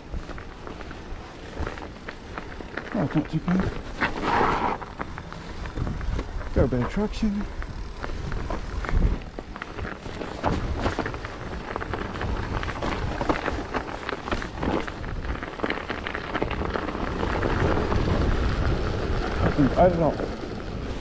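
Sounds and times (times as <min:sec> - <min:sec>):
bike clicks and knocks: 0:00.0 - 0:21.0
bike tyres rumbling on snow: 0:00.0 - 0:21.0.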